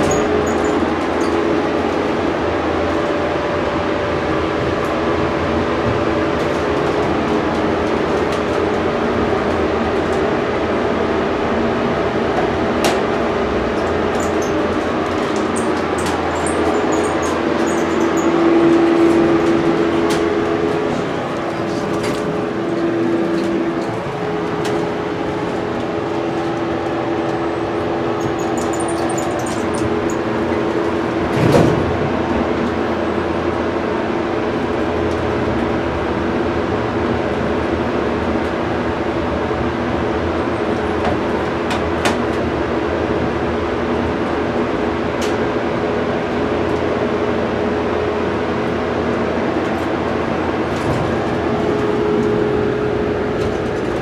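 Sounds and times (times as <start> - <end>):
elevator ventilation fan hum: 0.0 - 54.0.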